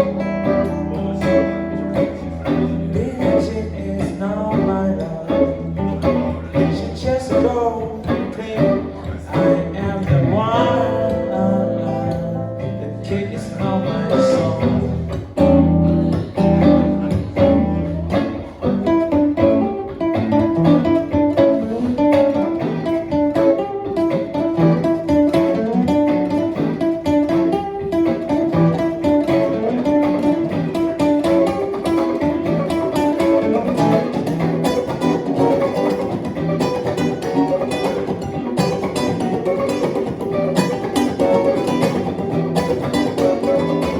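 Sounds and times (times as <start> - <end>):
acoustic and electric guitars jamming: 0.0 - 43.9.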